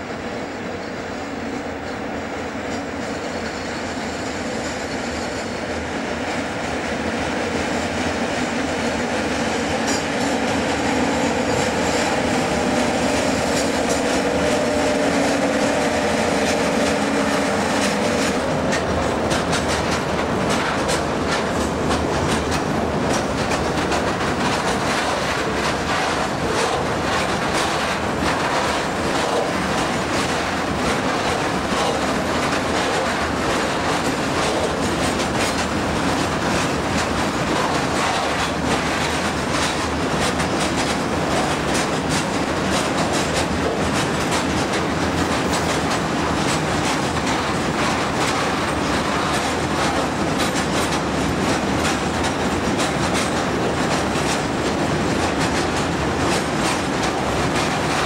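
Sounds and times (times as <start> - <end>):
electric locomotive humming: 0.0 - 58.0
train wheels clickety-clack: 0.0 - 58.0.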